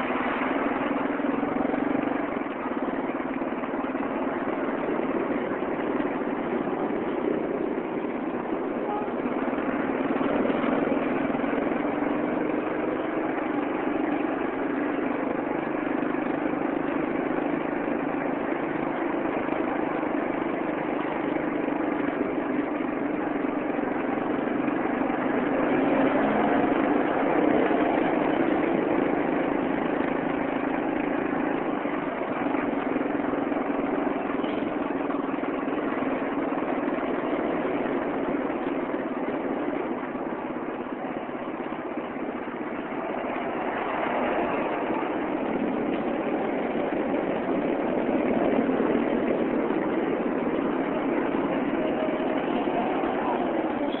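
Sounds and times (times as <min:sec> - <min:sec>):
road noise: 0:00.0 - 0:54.0
vehicle engine running: 0:00.0 - 0:54.0.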